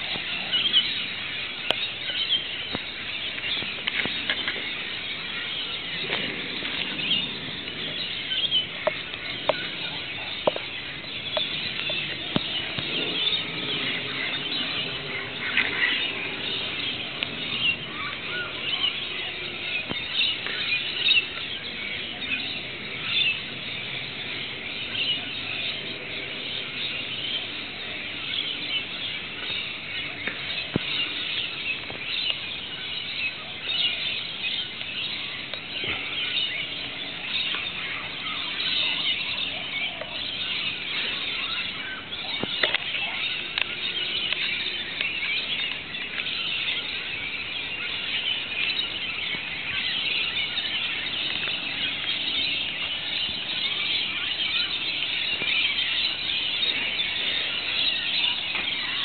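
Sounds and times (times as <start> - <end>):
birds chattering shrilly: 0.0 - 59.0.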